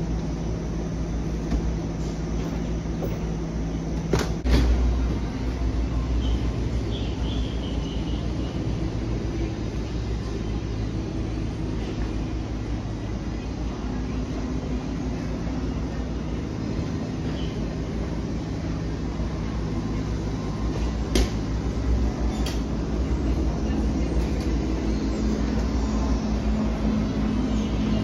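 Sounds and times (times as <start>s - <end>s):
machine engine hum: 0.0s - 28.0s.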